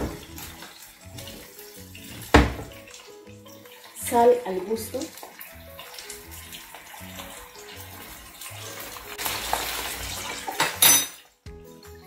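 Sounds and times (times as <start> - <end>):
shrimp sizzling in a frying pan: 0.0 - 11.4
soft background music: 0.0 - 12.0.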